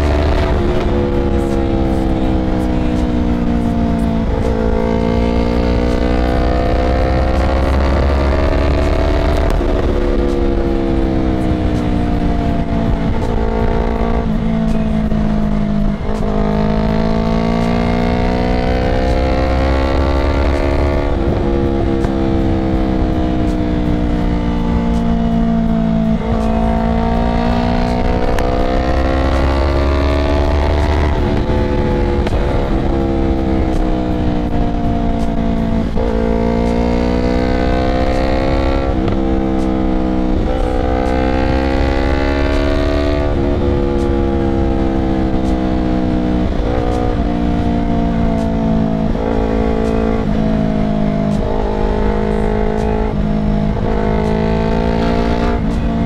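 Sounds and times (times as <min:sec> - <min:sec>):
motorcycle engine revving: 0:00.0 - 0:56.0
motorcycle gear changes: 0:00.0 - 0:56.0.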